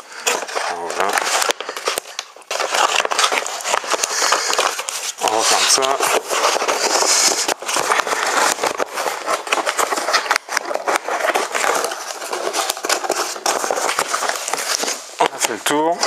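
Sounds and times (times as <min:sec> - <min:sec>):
cardboard rustling and scraping: 0:00.0 - 0:16.0.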